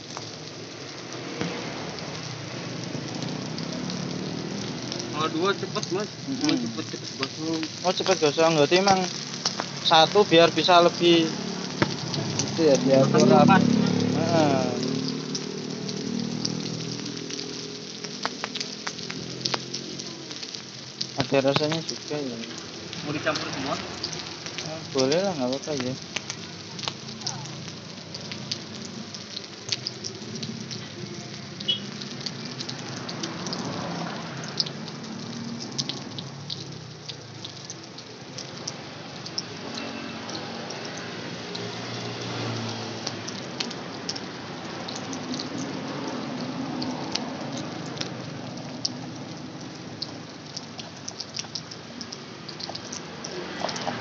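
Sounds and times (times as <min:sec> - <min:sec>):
small crackles and pops: 0:00.0 - 0:11.0, 0:11.6 - 0:12.6, 0:14.3 - 0:41.7, 0:42.4 - 0:54.0
oil sizzling in a frying pan: 0:00.0 - 0:54.0.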